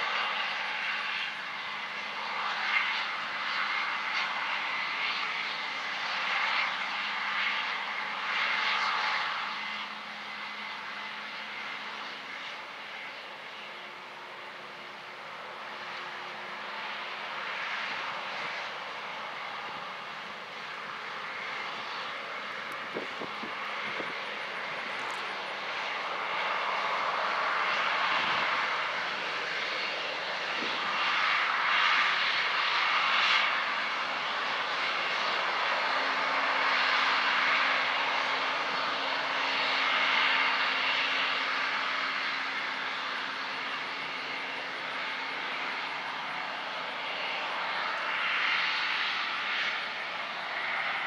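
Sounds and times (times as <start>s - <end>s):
combine harvester running: 0.0s - 51.0s.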